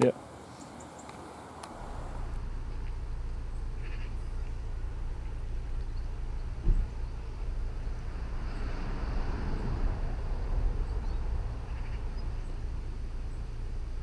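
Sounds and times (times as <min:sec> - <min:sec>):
low rumble: 0:01.6 - 0:14.0.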